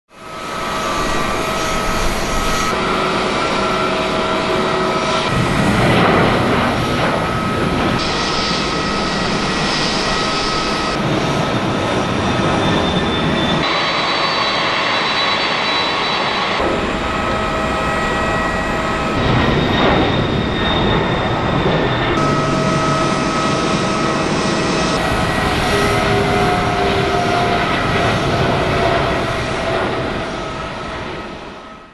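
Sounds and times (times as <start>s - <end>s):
jet engines rushing and whining: 0.1s - 31.9s.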